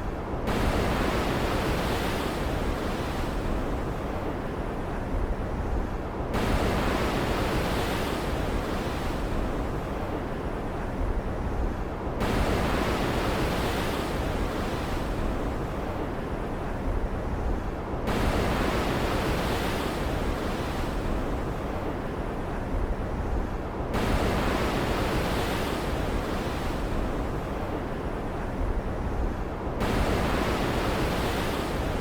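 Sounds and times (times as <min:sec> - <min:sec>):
heavy waves breaking: 0:06.4 - 0:32.0.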